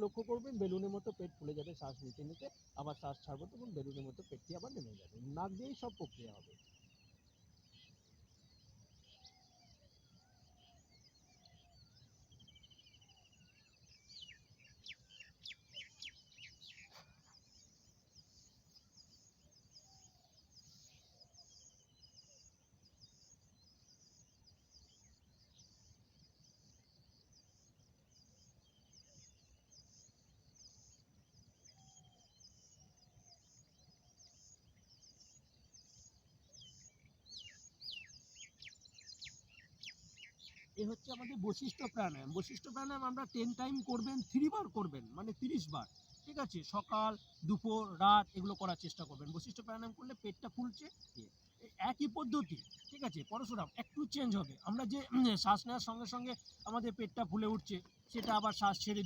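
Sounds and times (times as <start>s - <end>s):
faint birdsong chirps and trills: 0.0s - 59.0s.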